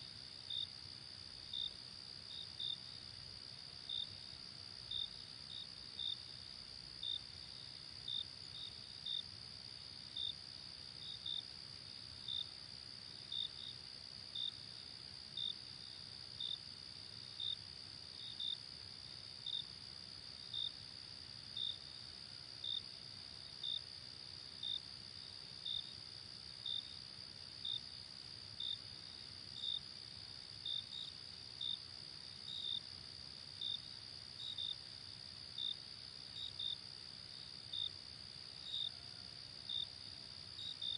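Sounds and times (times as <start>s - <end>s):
cricket chirping: 0.0s - 40.9s
insect trill: 1.4s - 40.9s.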